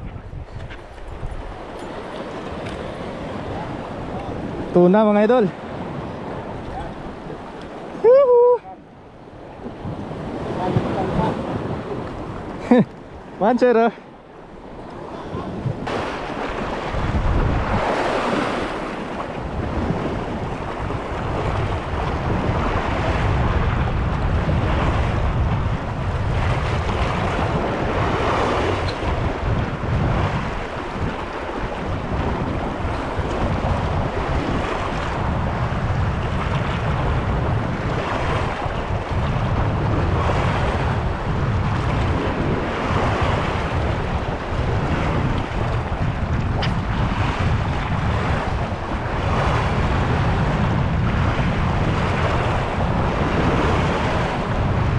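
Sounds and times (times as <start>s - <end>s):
waves rushing and sloshing: 0.0s - 54.9s
wind buffeting microphone: 0.0s - 54.9s.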